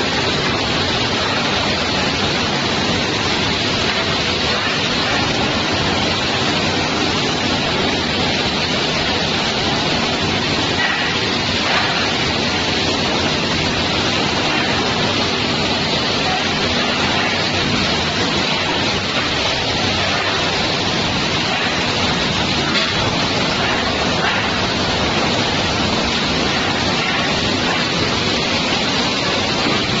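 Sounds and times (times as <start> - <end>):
water jets spraying crates: 0.0 - 30.0.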